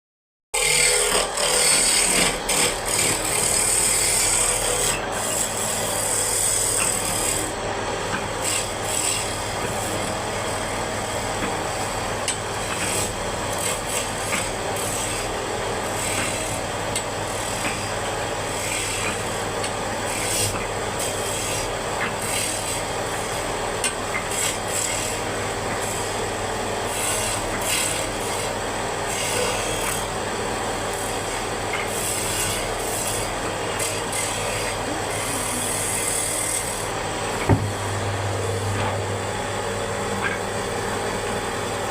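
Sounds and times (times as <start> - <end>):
tool scraping wood: 0.6 - 26.2, 26.8 - 30.2, 30.8 - 37.9.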